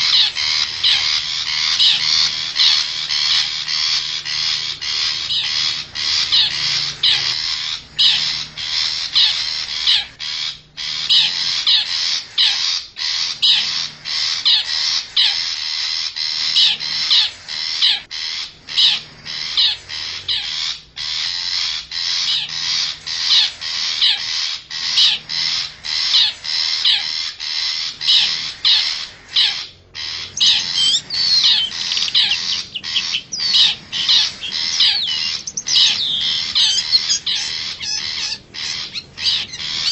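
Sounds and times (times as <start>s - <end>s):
slurred whistled bird notes: 0.0s - 12.6s, 18.7s - 39.9s
harsh bird call notes: 0.0s - 39.9s.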